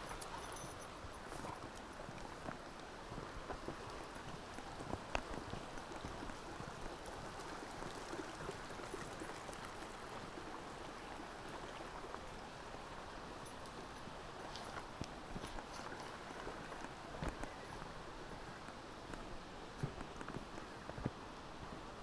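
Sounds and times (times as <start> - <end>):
brook water running over stones: 0.0 - 22.0.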